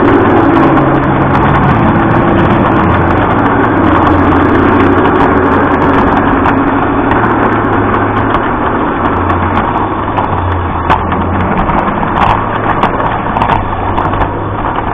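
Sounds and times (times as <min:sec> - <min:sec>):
wheels clicking over rails: 0:00.0 - 0:14.9.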